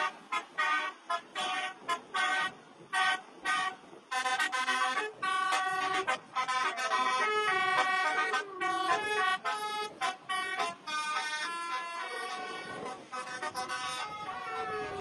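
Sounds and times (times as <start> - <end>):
multi-tone air horn melody: 0.0 - 15.0.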